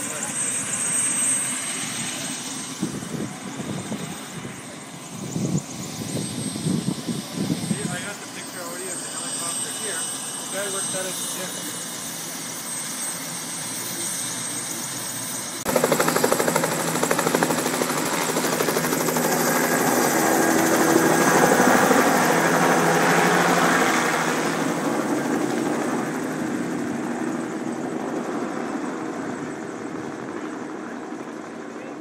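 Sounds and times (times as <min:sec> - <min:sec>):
helicopter rotor and engine: 0:00.0 - 0:32.0.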